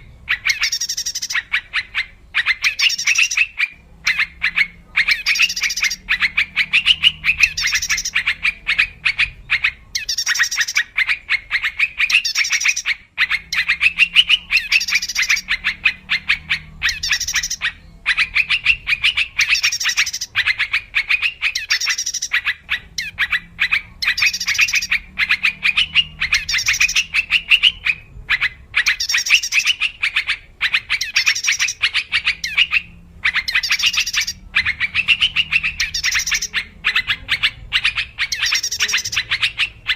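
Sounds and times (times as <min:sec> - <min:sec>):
bird chattering call: 0:00.0 - 0:39.9.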